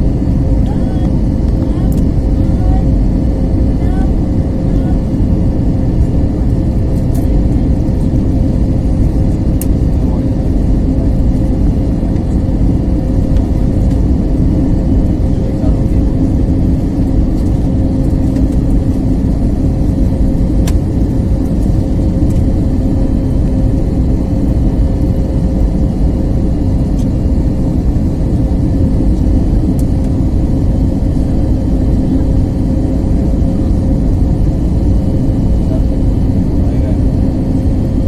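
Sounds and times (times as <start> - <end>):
airliner cabin rumble: 0.0 - 38.0
constant hum: 0.0 - 38.0.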